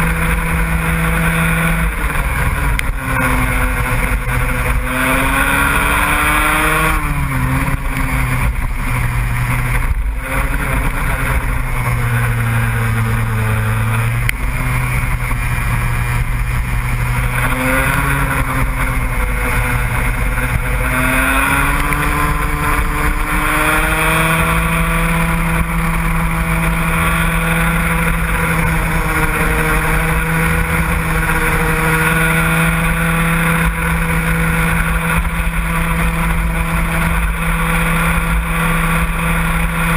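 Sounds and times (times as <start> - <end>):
racing engines revving: 0.0 - 39.9
steady engine tone: 0.0 - 39.9.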